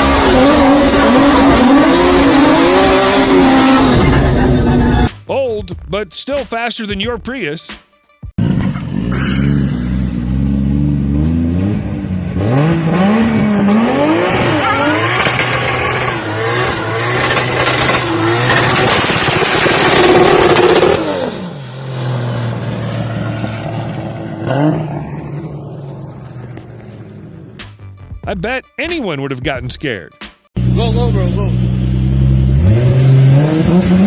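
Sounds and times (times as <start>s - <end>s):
car engine revving: 0.0s - 5.1s, 8.4s - 27.6s, 30.6s - 34.0s.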